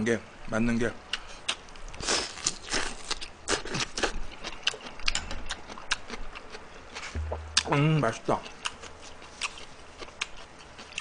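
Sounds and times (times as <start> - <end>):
close-up chewing with wet smacks: 1.1 - 7.7, 8.4 - 11.0.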